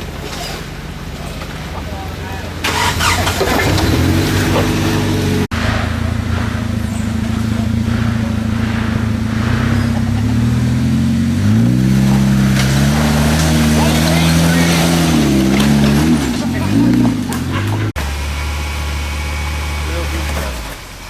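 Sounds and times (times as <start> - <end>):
vehicle engine running at low revs: 0.0 - 21.0.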